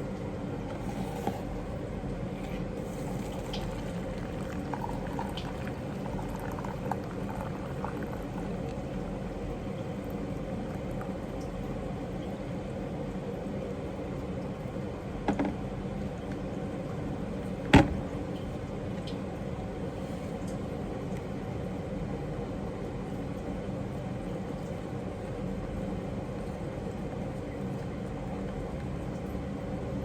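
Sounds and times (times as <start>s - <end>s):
low household hum: 0.0s - 30.0s.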